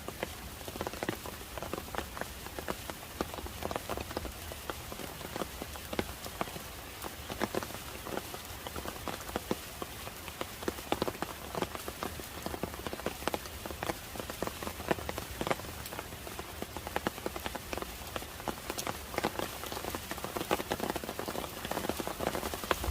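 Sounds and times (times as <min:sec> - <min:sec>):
rain hissing: 0:00.0 - 0:22.9.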